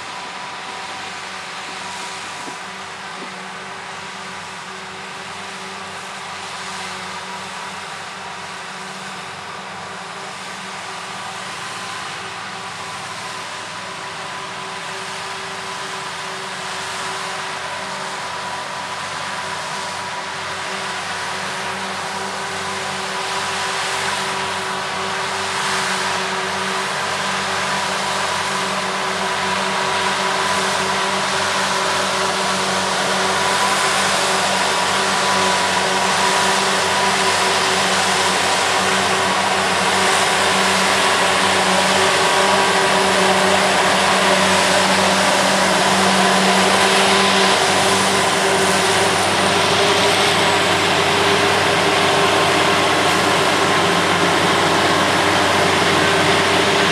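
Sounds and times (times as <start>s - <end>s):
broad rushing noise: 0.0s - 56.9s
forage harvester hum and whine: 0.0s - 56.9s
tractor engine: 0.0s - 56.9s.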